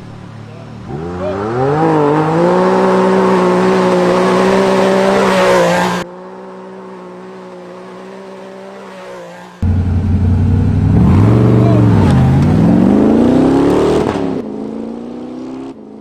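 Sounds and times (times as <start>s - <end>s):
rally car engine at high revs: 0.8s - 16.0s.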